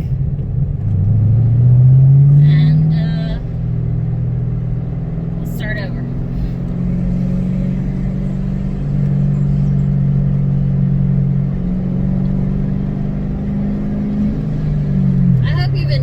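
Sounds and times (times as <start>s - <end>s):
car engine drone: 0.0s - 16.0s
road rumble: 0.0s - 16.0s.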